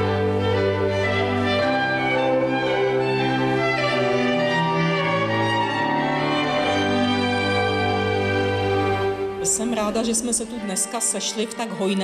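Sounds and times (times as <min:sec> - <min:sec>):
bowed strings music: 0:00.0 - 0:12.0.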